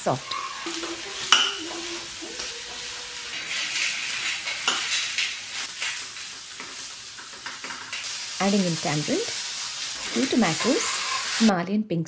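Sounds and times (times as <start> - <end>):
vegetables sizzling in oil: 0.0 - 11.5
spoon scraping a pan: 0.2 - 8.2, 9.5 - 11.5.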